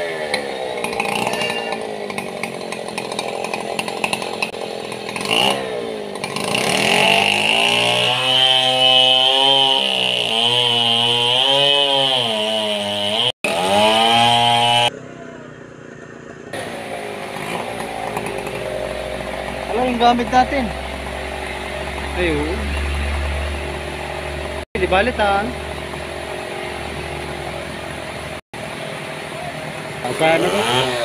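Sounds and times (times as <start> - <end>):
chainsaw cutting wood: 0.0 - 14.9, 16.6 - 31.0.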